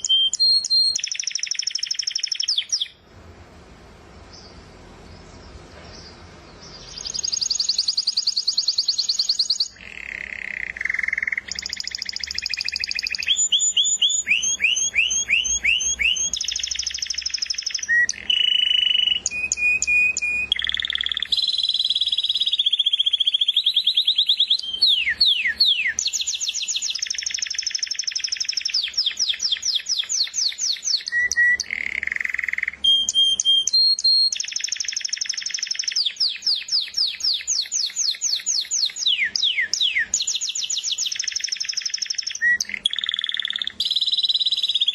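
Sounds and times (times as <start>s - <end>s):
canary singing trills: 0.0s - 3.0s, 4.2s - 44.9s.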